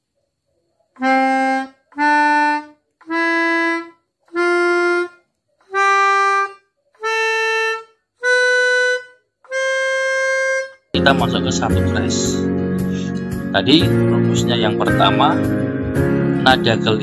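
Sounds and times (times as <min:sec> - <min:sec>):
melodica playing a scale: 0:01.0 - 0:17.0.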